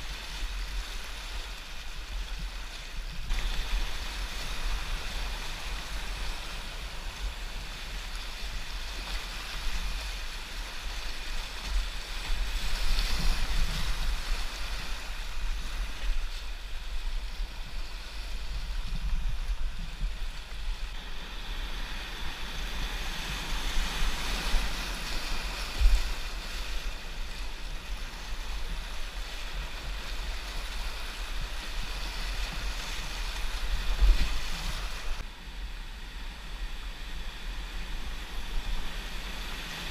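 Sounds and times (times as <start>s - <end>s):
wind buffeting microphone: 0.0s - 35.3s.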